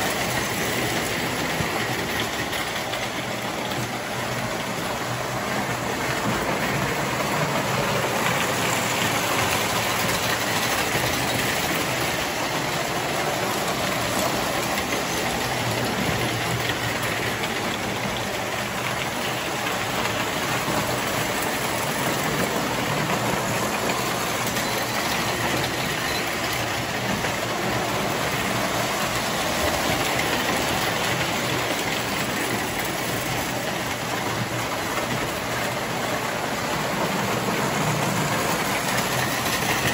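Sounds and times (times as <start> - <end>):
model trains whirring and rattling: 0.0 - 39.9.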